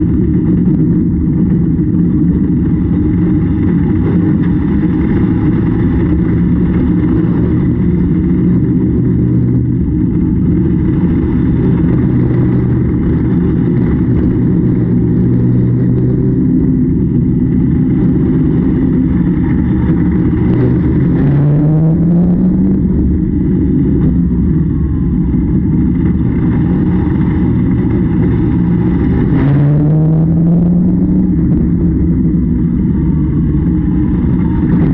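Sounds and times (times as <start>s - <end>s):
harvester engine revving: 0.0s - 34.9s.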